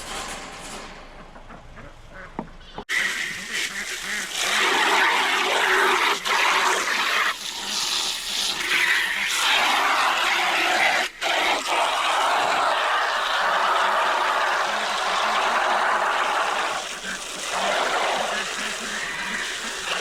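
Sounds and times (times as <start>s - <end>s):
water rushing from a hose: 2.9s - 20.0s.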